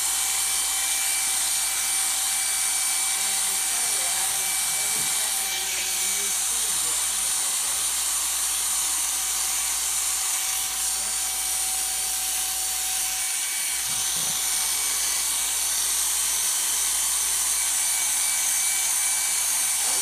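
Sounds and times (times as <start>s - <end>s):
electric clippers running: 0.0s - 20.0s.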